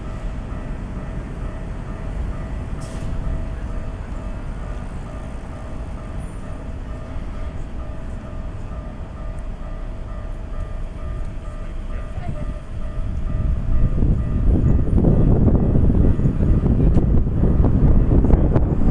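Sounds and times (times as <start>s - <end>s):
level-crossing warning bell: 0.0s - 18.9s
train rumble: 0.0s - 18.9s.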